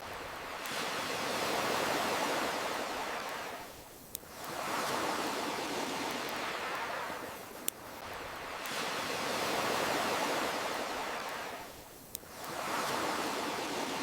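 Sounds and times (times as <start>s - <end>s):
campfire crackles: 0.0s - 14.0s
ocean waves washing in: 0.0s - 14.0s.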